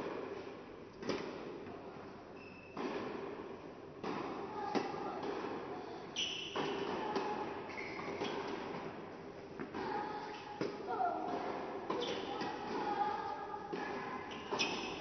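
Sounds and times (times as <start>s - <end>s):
tennis balls struck by rackets: 0.0s - 1.7s, 2.8s - 15.0s
tennis balls bouncing on court: 0.0s - 1.8s, 2.7s - 15.0s.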